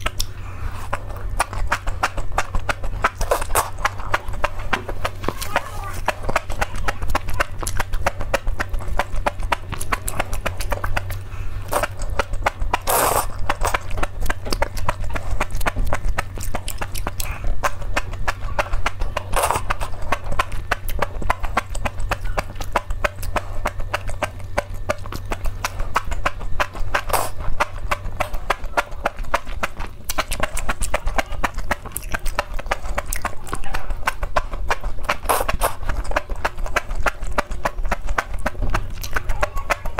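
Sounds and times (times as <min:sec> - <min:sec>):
mouth clicks and smacks: 0:00.0 - 0:39.9
wet chewing and slurping: 0:00.0 - 0:39.9.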